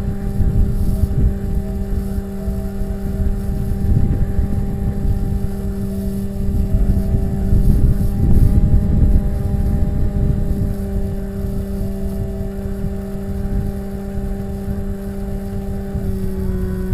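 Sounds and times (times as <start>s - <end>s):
electric motor and propeller: 0.0s - 16.9s
wind rumble on microphone: 0.0s - 16.9s.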